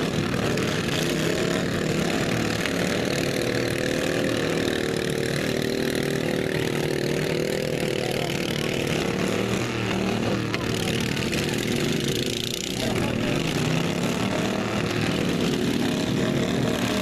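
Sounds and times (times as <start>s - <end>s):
lawn mower engines running: 0.0s - 17.0s.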